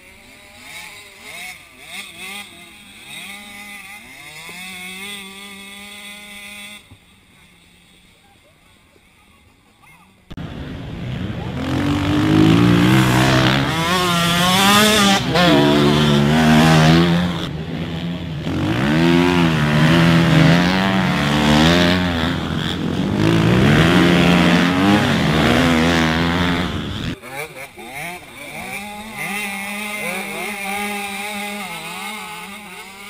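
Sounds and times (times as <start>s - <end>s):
motocross bike engines revving: 0.0s - 33.0s.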